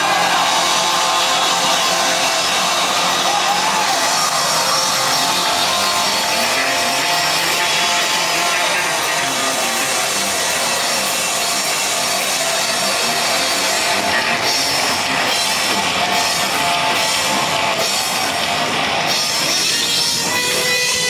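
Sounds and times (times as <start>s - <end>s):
distorted electric guitars: 0.0s - 21.0s
drum kit: 0.0s - 21.0s.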